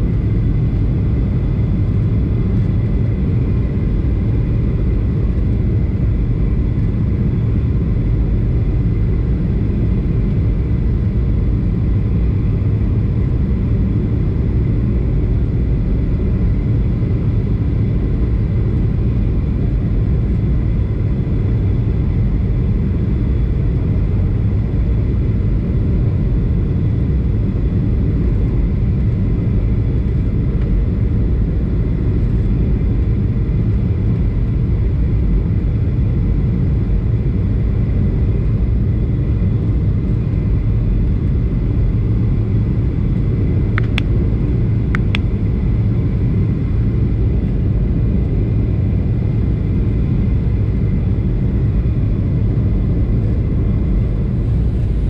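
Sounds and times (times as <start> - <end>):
aircraft cabin engine rumble: 0.0 - 55.0
faint steady whine: 0.0 - 55.0.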